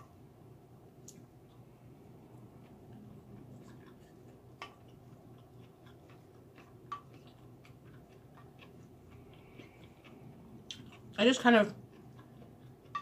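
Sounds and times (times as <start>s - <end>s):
soft chewing: 1.0s - 13.0s.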